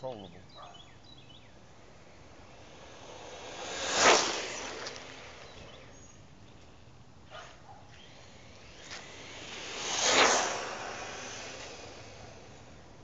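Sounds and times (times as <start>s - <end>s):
electric rc car speeding past: 0.5s - 13.0s.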